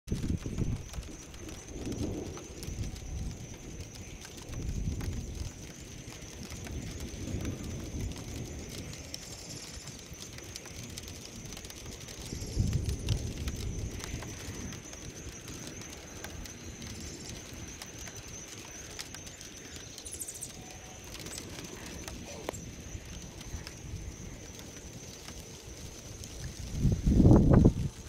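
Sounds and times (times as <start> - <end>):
faint ticks: 0.1 - 28.0
low rumbling of thunderstorm: 0.1 - 28.0.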